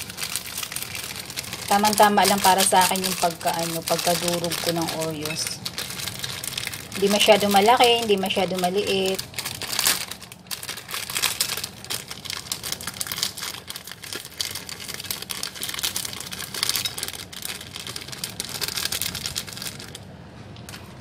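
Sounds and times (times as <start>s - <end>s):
plastic wrapper crinkling: 0.0s - 21.0s.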